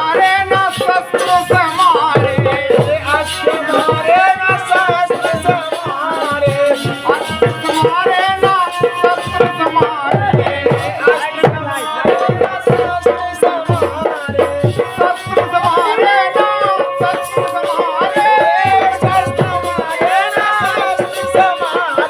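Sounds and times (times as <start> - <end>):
quick hand-drum strokes: 0.0 - 22.0
rattling percussion: 0.0 - 22.0.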